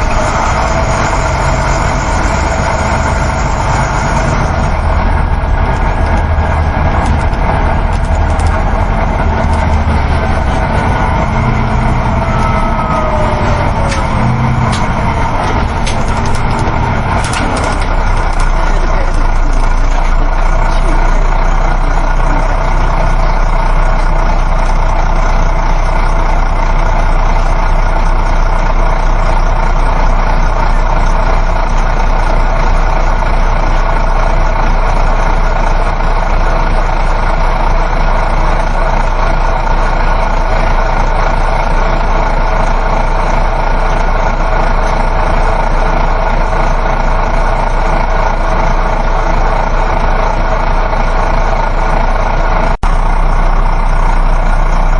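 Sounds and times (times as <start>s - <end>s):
bus engine hum: 0.0s - 54.9s
road and tyre noise: 0.0s - 54.9s.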